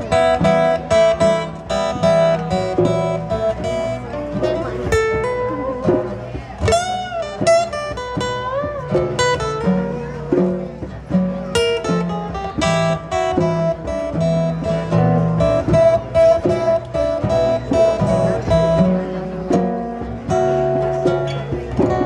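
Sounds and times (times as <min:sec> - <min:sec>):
acoustic guitar picking: 0:00.0 - 0:22.0.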